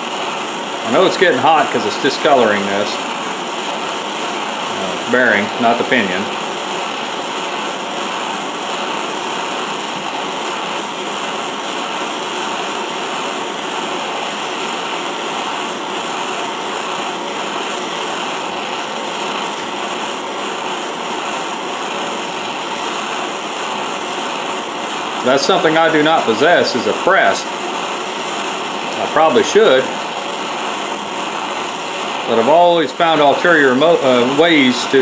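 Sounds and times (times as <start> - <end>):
propane torch hissing: 0.0 - 35.0.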